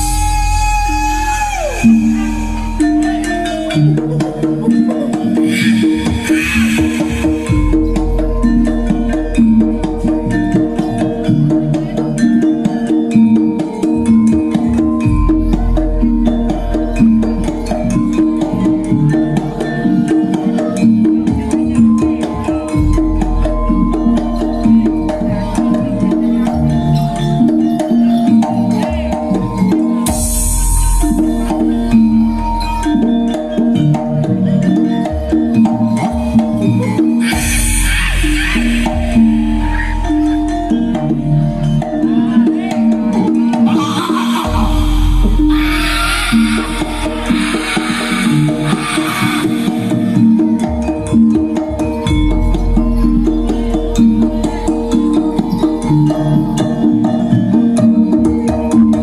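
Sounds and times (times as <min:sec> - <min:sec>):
drums and tuned percussion: 0:00.0 - 0:59.0
held melodic notes: 0:00.0 - 0:59.0.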